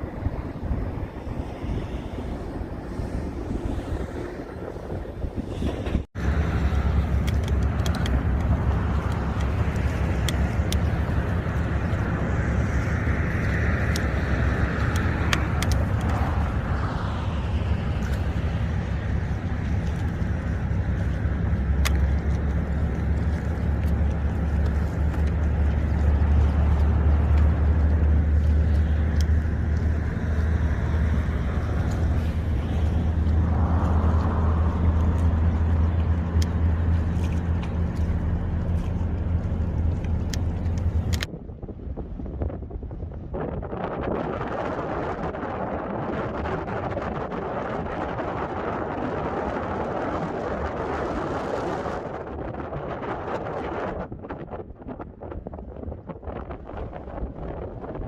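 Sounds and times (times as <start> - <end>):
low engine drone: 0.0 - 58.0
wind or road noise: 0.0 - 58.0.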